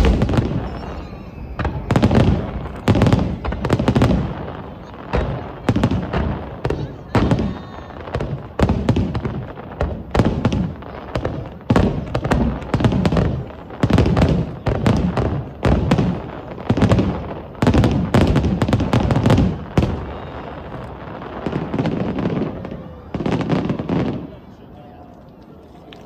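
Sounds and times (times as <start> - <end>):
smaller firework pops: 0.0 - 24.4
fireworks bursting with bangs: 0.0 - 24.6.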